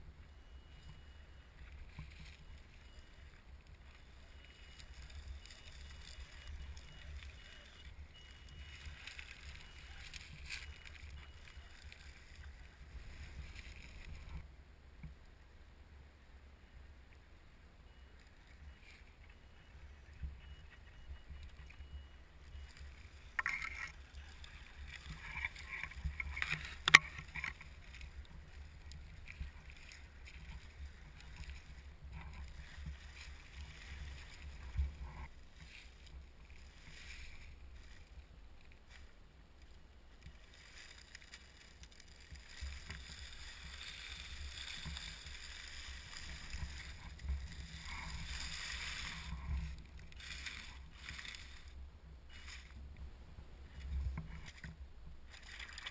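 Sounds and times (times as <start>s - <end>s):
tyres rustling dry leaves: 0.0s - 14.5s, 18.1s - 55.9s.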